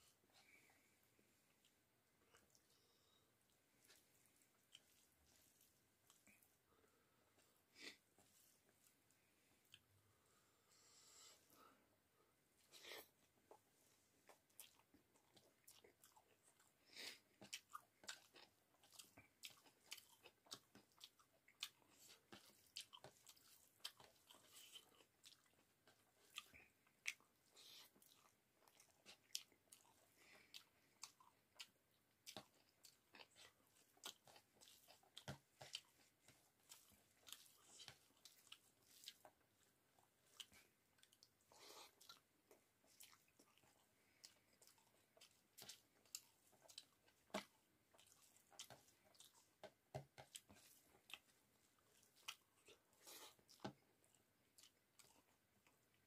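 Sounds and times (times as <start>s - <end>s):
person chewing and mouth smacks: 0.0s - 9.9s, 12.6s - 56.0s.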